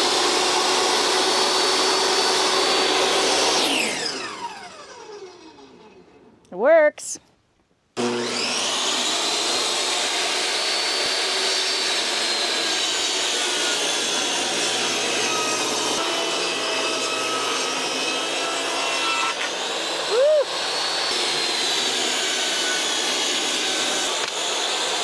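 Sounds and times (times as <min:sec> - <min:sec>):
table saw motor whining: 0:00.0 - 0:06.4, 0:08.0 - 0:25.0.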